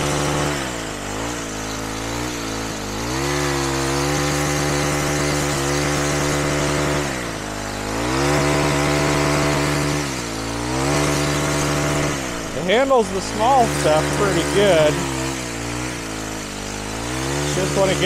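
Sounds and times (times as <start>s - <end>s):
hedge trimmer engine revving: 0.0s - 18.0s.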